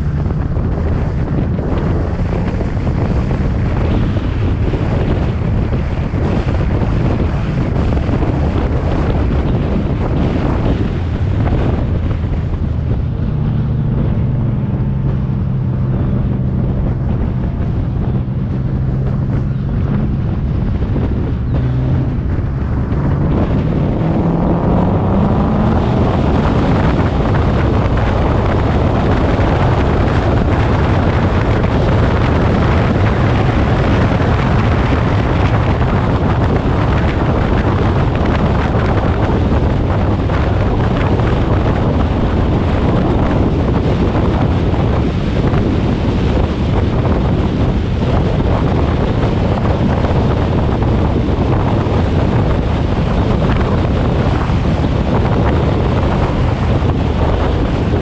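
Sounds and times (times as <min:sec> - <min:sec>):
car engine accelerating: 0:00.0 - 0:58.0
wind noise on microphone: 0:00.0 - 0:58.0.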